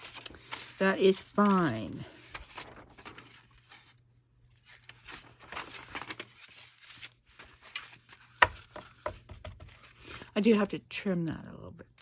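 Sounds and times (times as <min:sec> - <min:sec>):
paper pages rustling: 0:00.0 - 0:10.3.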